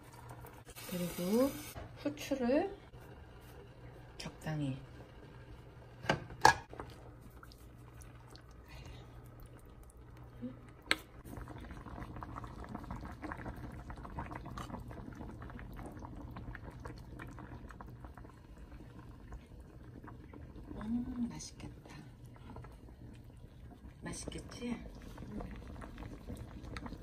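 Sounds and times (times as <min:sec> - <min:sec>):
broth boiling and bubbling: 0:00.0 - 0:27.0.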